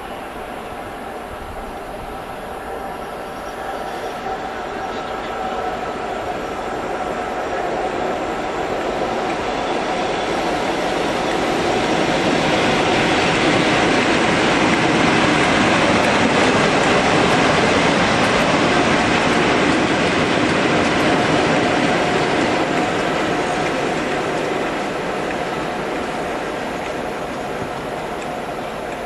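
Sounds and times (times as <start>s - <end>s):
diesel locomotive engine: 0.0s - 29.0s
train wheels on rails: 0.0s - 29.0s.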